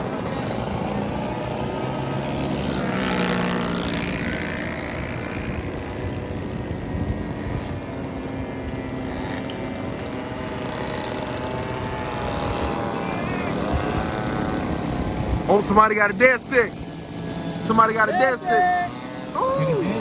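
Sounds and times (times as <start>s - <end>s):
model airplane engines droning: 0.0s - 20.0s.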